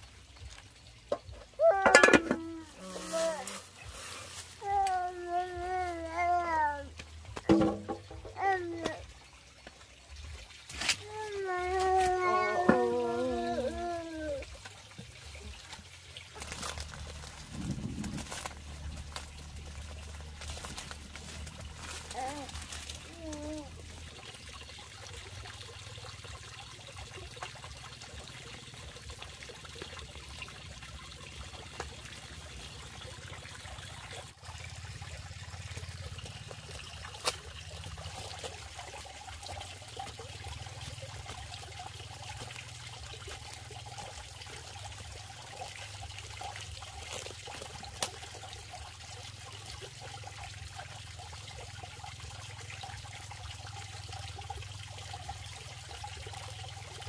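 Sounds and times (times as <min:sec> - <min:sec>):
water running and trickling: 0:00.0 - 0:57.0.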